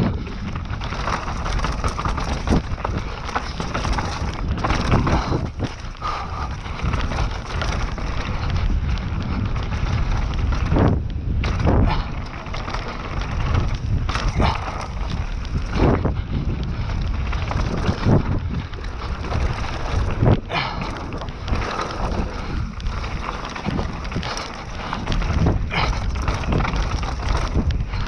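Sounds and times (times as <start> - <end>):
bike tyres rattling on rough ground: 0.0 - 28.0
wind buffeting microphone: 0.0 - 28.0.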